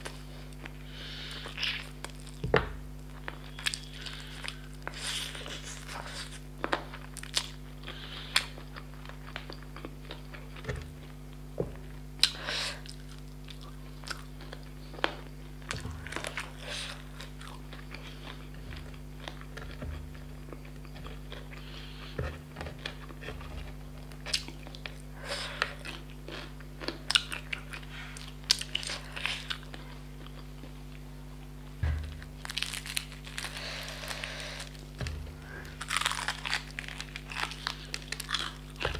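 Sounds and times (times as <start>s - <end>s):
low electrical hum: 0.0s - 38.9s
chewing crispy fried chicken: 3.0s - 38.9s.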